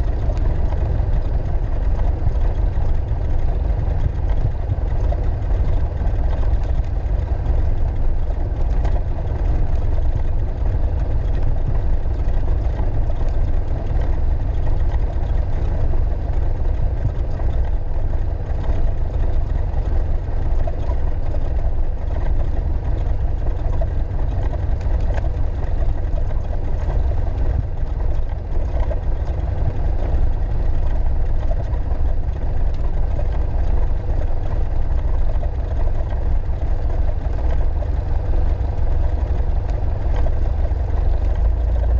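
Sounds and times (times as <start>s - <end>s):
aircraft engine and propeller drone: 0.0s - 41.9s.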